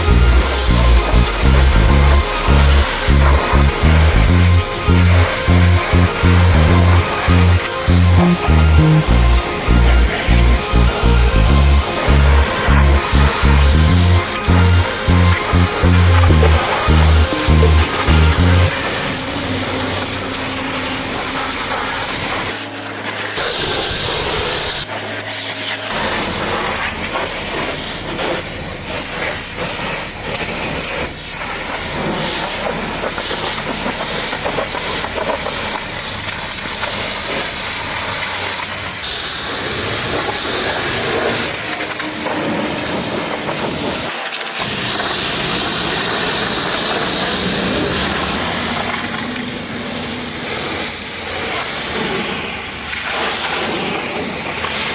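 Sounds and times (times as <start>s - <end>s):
pressure washer spraying water: 0.0s - 54.9s.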